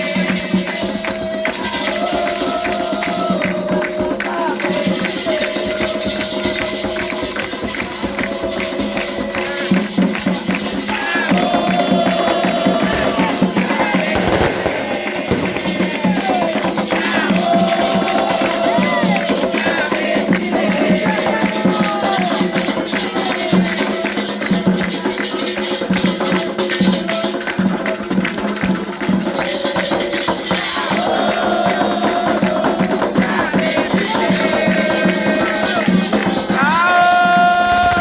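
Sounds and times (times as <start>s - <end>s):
voices singing: 0.0s - 24.0s, 30.2s - 38.0s
fast dense percussion: 0.0s - 38.0s.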